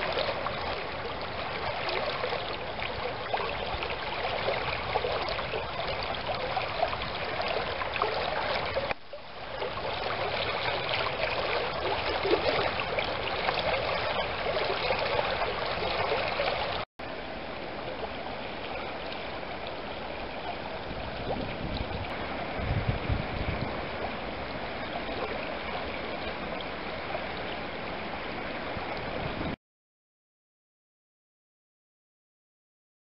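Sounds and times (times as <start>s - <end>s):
stream rippling over rocks: 0.0s - 29.6s.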